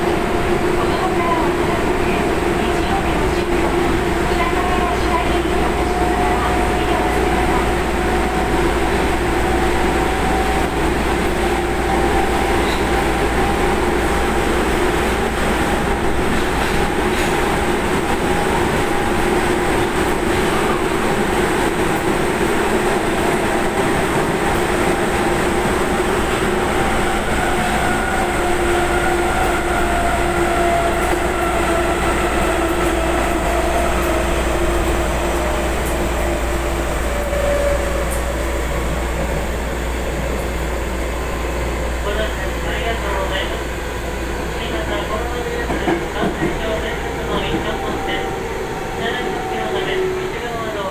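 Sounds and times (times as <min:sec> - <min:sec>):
faint train whine: 0:00.0 - 0:50.9
subway train wheels rumbling: 0:00.0 - 0:50.9.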